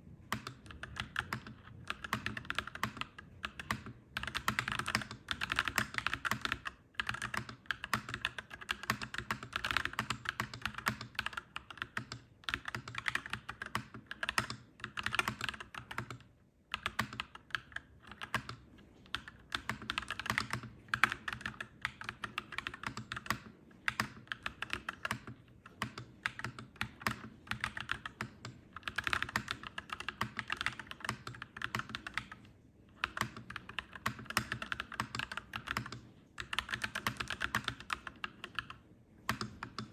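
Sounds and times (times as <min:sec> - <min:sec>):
mechanical keyboard typing: 0:00.2 - 0:39.9.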